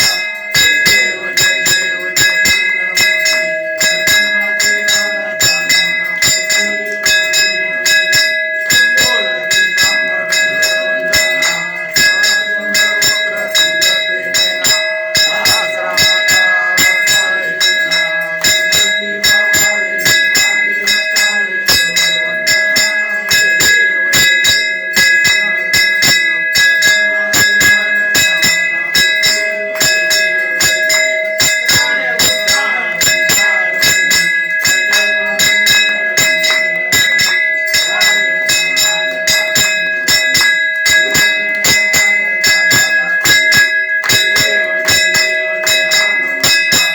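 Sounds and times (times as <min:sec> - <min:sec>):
temple bells struck rapidly: 0:00.0 - 0:46.9.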